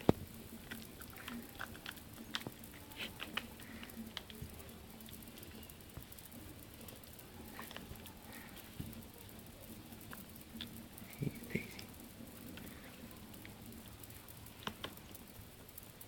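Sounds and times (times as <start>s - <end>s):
puppy chewing on a toy: 0.0s - 16.0s.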